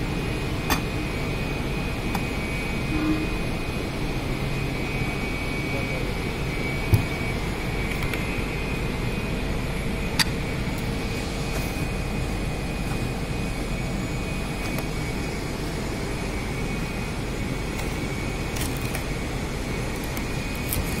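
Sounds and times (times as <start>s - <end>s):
workshop machinery drone: 0.0s - 21.0s.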